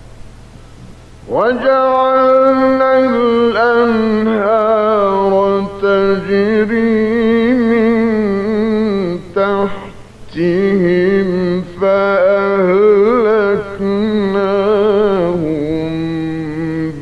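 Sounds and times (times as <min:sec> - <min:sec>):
man reciting melodically: 0:01.3 - 0:17.0.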